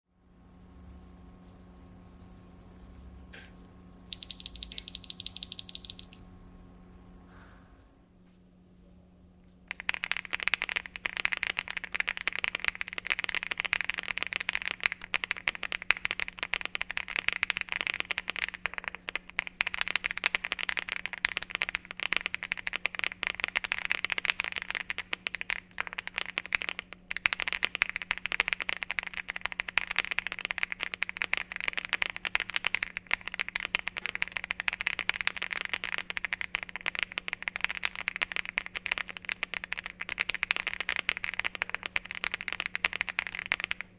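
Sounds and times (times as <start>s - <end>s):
faint low hum: 0.1s - 43.9s
mechanical keyboard typing: 4.1s - 6.2s, 9.7s - 43.9s.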